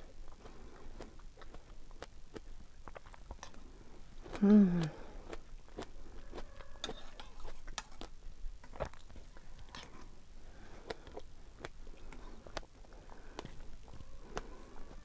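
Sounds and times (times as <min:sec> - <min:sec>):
person chewing strawberries: 0:00.0 - 0:15.0.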